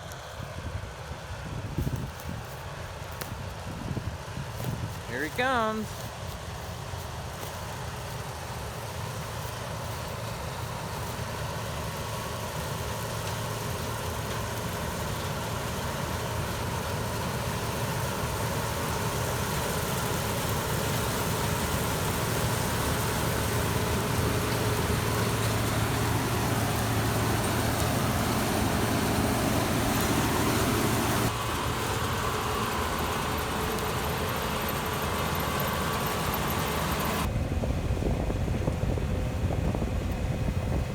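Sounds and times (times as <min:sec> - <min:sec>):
combine harvester engine running: 0:00.0 - 0:40.9.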